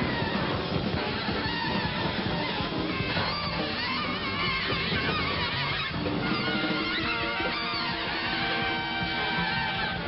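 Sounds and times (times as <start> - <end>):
alto saxophone: 0.0 - 10.0
bass groove: 0.0 - 10.0
drums: 0.0 - 10.0.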